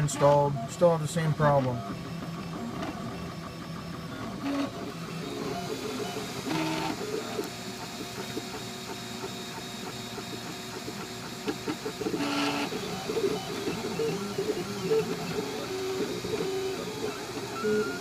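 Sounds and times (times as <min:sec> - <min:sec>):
fans whirring: 0:00.0 - 0:18.0
stepper motors buzzing: 0:00.0 - 0:18.0.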